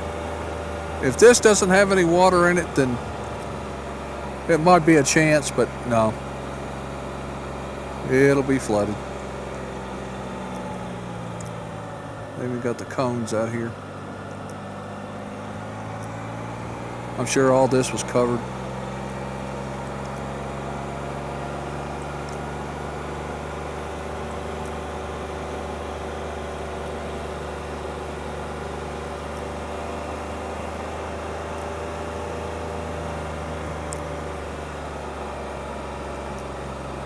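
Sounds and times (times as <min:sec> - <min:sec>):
car engine running: 0:00.0 - 0:37.0.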